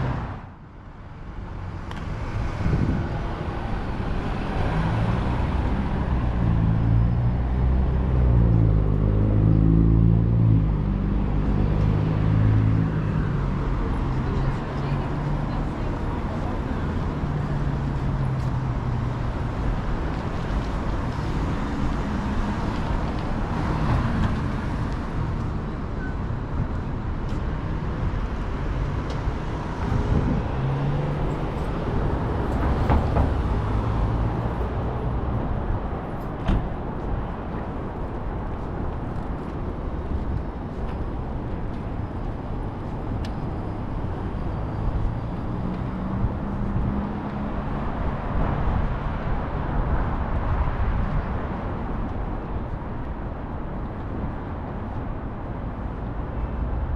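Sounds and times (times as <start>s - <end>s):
vehicles passing: 0.0s - 56.9s.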